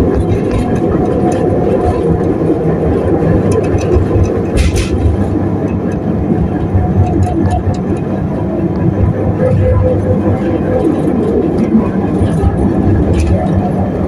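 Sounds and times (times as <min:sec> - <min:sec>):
rail vehicle rumbling: 0:00.0 - 0:14.0.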